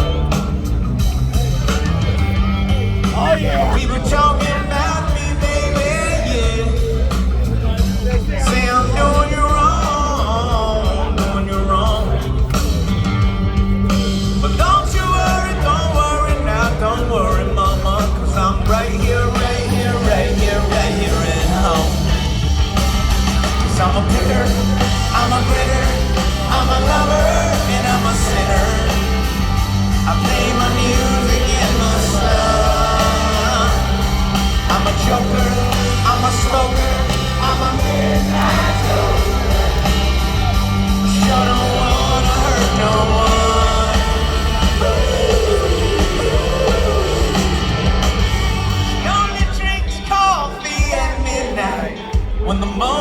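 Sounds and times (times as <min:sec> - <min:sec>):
bass line: 0:00.0 - 0:53.0
crowd yelling: 0:00.0 - 0:53.0
live rock band playing: 0:00.0 - 0:53.0
lead vocal singing: 0:01.4 - 0:53.0.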